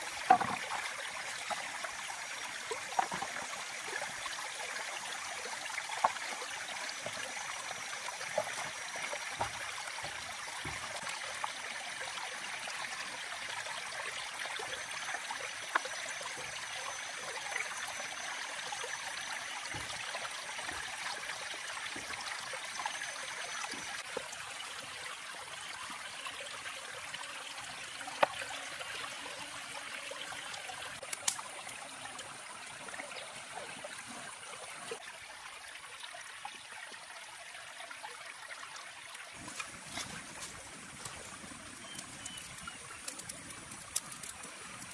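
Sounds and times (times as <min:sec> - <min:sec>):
stream running: 0:00.0 - 0:44.9.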